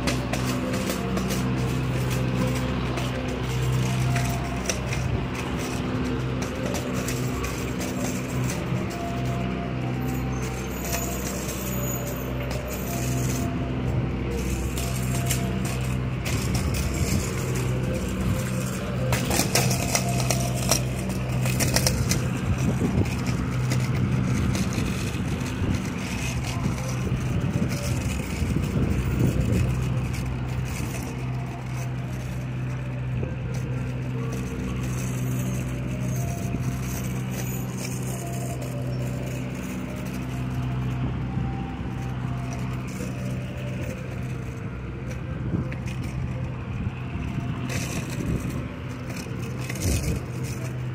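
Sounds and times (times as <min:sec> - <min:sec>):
street noise: 0:00.0 - 0:50.9
vehicle engine humming: 0:00.0 - 0:50.9.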